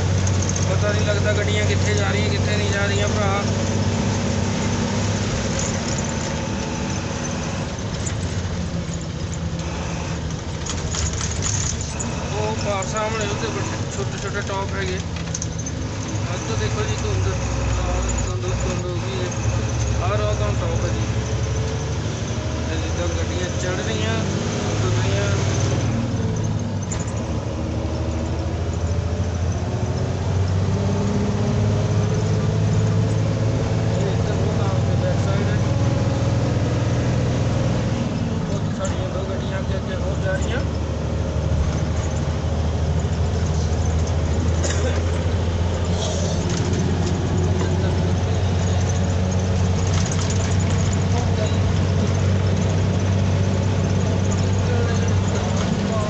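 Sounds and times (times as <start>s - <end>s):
road and wind noise: 0.0s - 56.0s
truck engine hum: 0.0s - 56.0s.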